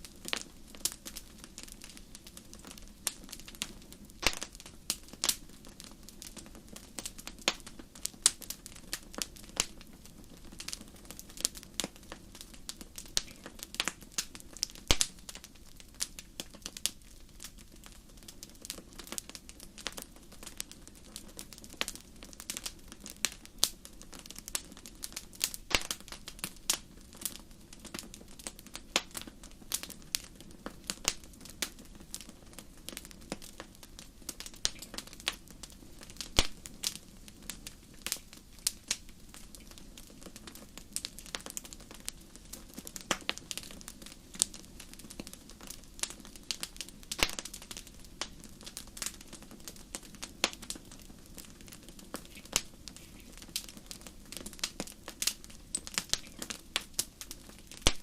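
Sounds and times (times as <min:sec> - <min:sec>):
fire crackling and popping: 0:00.0 - 0:58.0
soft rush of flame: 0:00.0 - 0:58.0.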